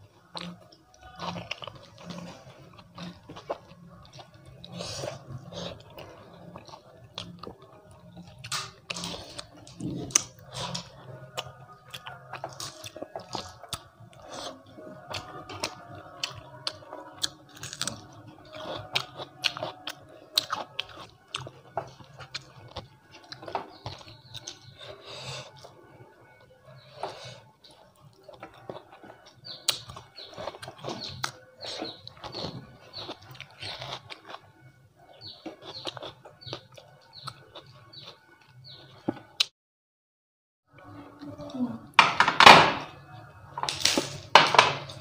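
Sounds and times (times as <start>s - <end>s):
close chewing with crunches: 0.0s - 39.5s.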